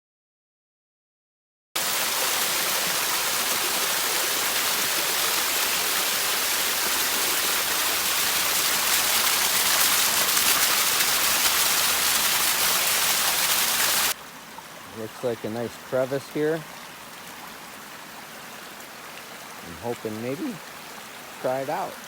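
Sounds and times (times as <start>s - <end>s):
small waterfall rushing: 1.8s - 22.0s.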